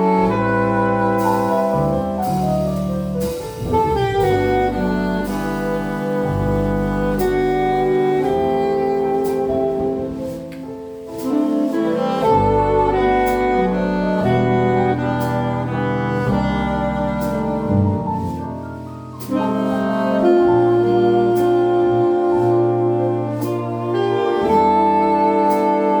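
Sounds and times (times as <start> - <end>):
double bass: 0.0 - 26.0
drums: 0.0 - 26.0
piano: 0.0 - 26.0.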